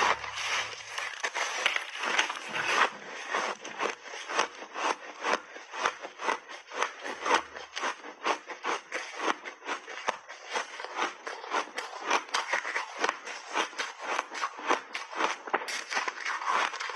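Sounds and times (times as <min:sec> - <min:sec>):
ice being chewed: 0:00.0 - 0:16.9.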